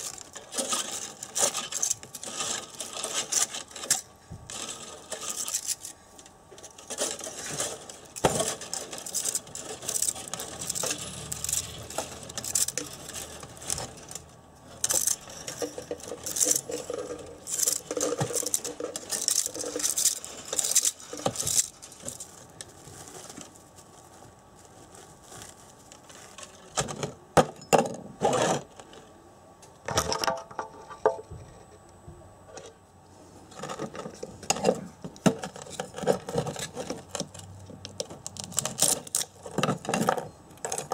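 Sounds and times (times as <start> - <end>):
wire scratching and rustling: 0.0 - 27.2, 33.5 - 40.9.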